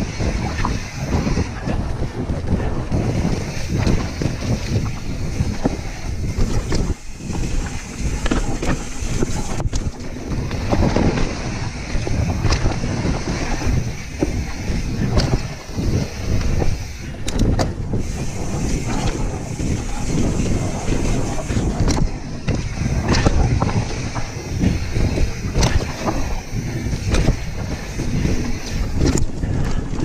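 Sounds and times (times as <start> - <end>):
bike knocking and rattling: 0.0 - 30.0
tyres rumbling over dirt: 0.0 - 30.0
wind rushing over microphone: 0.0 - 30.0.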